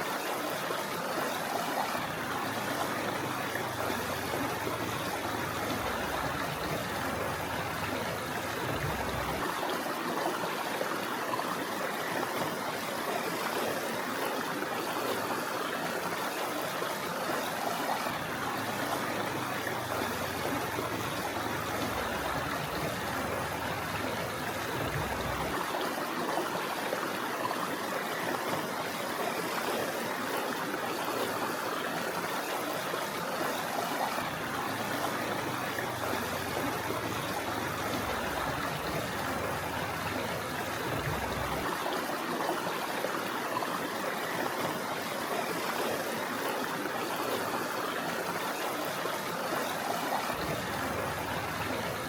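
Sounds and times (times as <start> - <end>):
river flowing over stones: 0.0 - 52.0.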